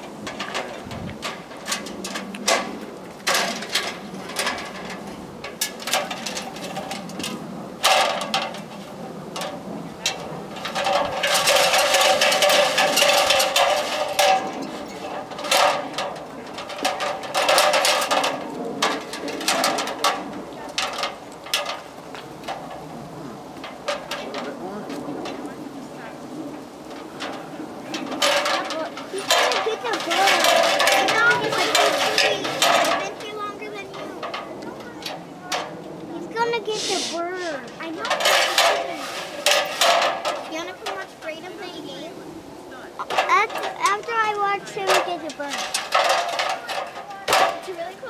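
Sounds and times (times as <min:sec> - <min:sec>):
sharp metal knocks: 0:00.0 - 0:22.9, 0:26.9 - 0:35.8, 0:37.7 - 0:41.3, 0:43.0 - 0:48.0
metal ladder clanking and rattling: 0:00.0 - 0:42.0, 0:43.0 - 0:48.0.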